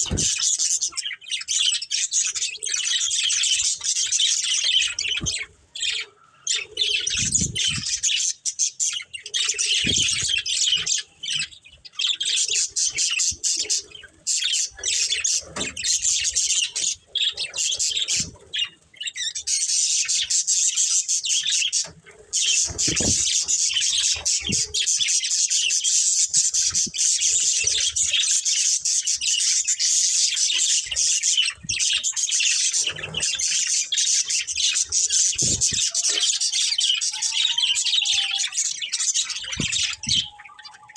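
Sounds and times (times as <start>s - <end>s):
budgerigars chattering and chirping: 0.0s - 40.9s.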